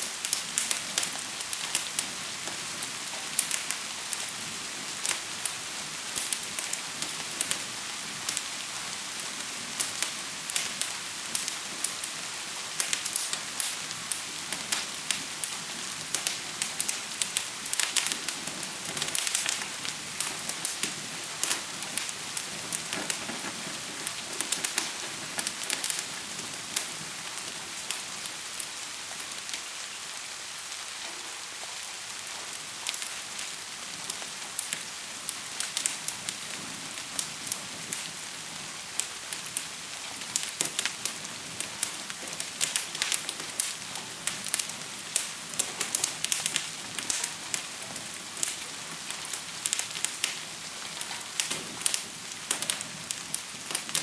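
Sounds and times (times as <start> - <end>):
steady rain hiss: 0.0 - 54.0
wood fire crackling: 0.0 - 54.0.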